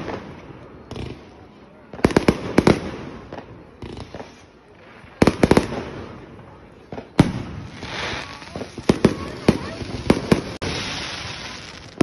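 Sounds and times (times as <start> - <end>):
fireworks bangs: 0.0 - 12.0
fireworks pops and crackle: 0.0 - 12.0.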